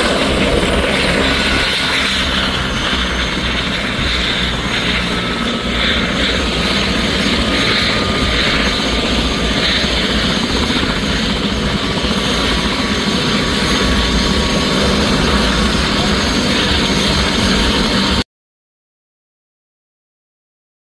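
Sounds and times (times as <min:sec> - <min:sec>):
helicopter turbine whine: 0:00.0 - 0:18.2.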